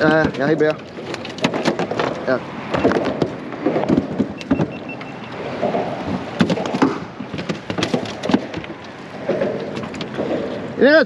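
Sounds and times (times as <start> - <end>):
fish flopping: 0.0 - 10.8
knocks and thumps in boat: 0.0 - 11.0.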